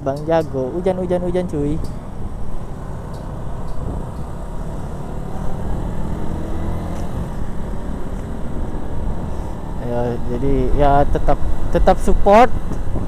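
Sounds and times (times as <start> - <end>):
motorcycle engine rumbling: 0.0 - 13.0
road noise: 0.0 - 13.0.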